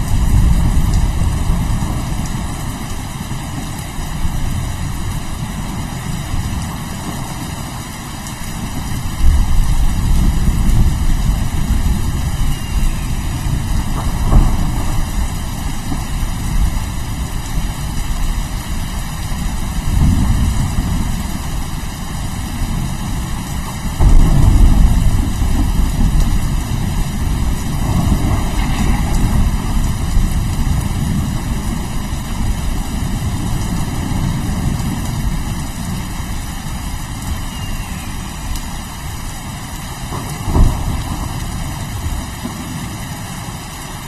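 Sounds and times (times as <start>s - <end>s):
rolling thunder: 0.0s - 7.6s, 8.5s - 43.2s
steady rain: 0.0s - 44.0s.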